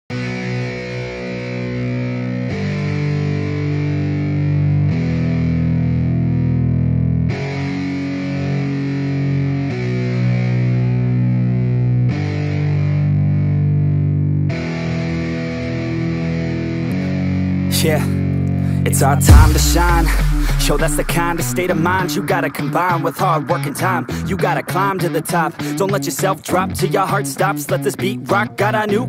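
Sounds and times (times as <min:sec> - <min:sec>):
distorted electric guitar chords: 0:00.1 - 0:29.0.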